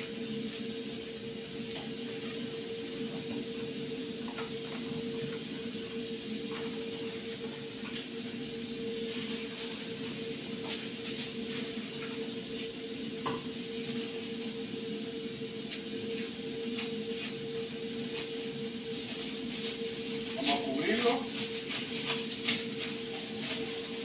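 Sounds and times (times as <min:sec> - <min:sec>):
constant hum: 0:00.0 - 0:24.0
stove hissing: 0:00.0 - 0:24.0.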